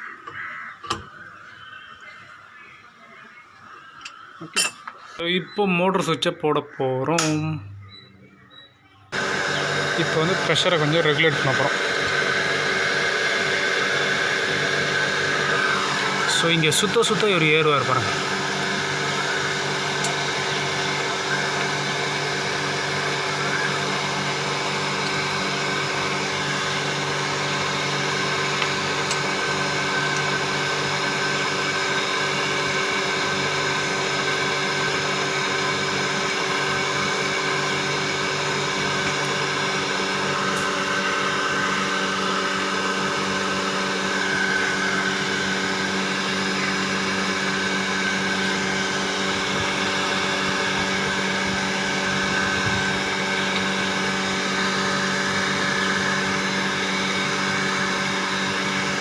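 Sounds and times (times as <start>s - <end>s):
water pump motor humming: 9.1s - 59.0s.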